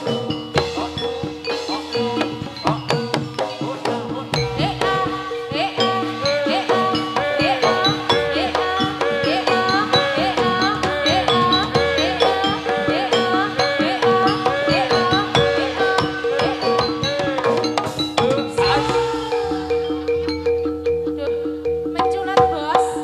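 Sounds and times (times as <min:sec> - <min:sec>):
hand drums beating: 0:00.0 - 0:23.0
pitched metal percussion: 0:00.0 - 0:23.0.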